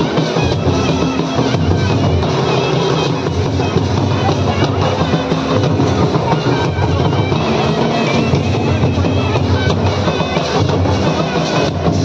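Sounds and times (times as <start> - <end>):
crowd hubbub: 0.0 - 12.0
large drums beaten steadily: 0.0 - 12.0.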